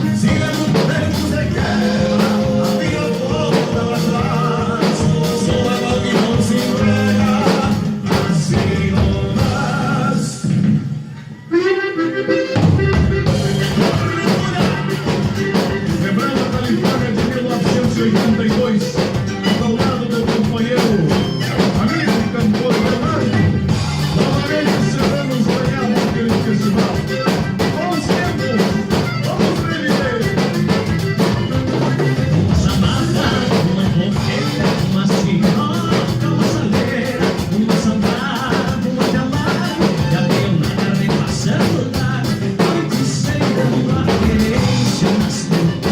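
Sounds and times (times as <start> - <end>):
upbeat band music: 0.0 - 45.9.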